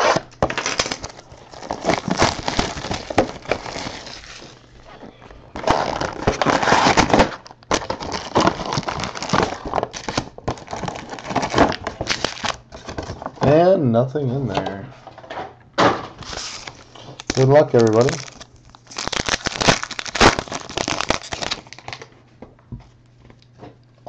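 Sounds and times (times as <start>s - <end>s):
plastic wrapping crinkling and tearing: 0.0s - 13.4s, 16.1s - 22.1s.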